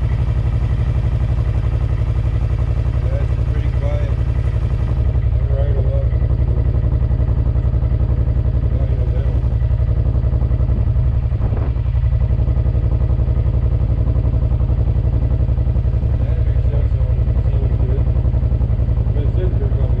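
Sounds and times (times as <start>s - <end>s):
engine knock: 0.0s - 20.0s
motorcycle engine idling: 0.0s - 20.0s.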